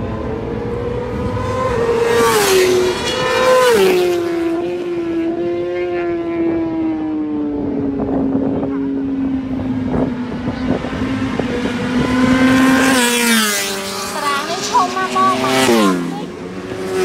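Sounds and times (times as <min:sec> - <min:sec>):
racing motorcycle engines revving: 0:00.0 - 0:17.0.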